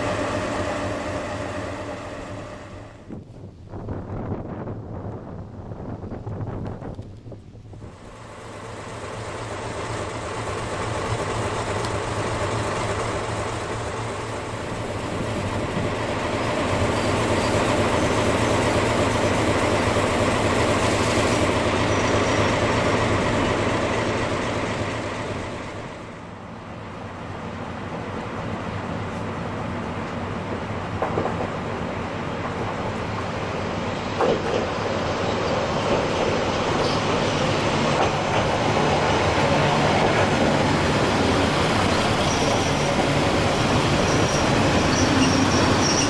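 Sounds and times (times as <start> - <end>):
train wheels on rail: 0.0 - 3.5, 5.8 - 46.0.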